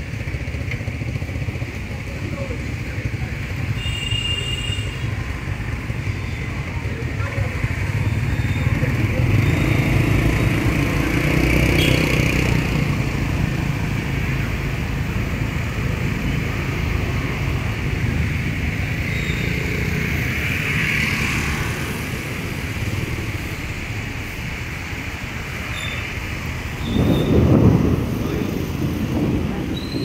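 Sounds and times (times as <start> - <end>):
road noise: 0.0 - 30.0
street traffic passing: 0.0 - 30.0.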